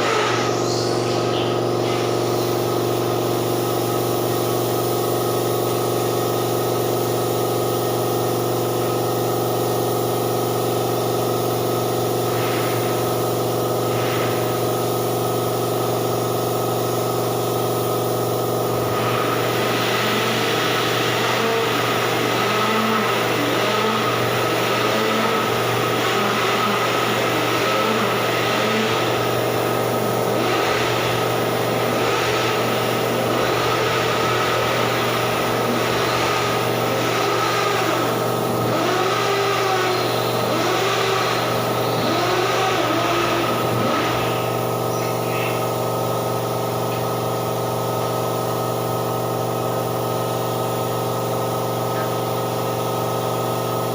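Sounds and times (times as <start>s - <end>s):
air compressor motor hum: 0.0s - 53.9s.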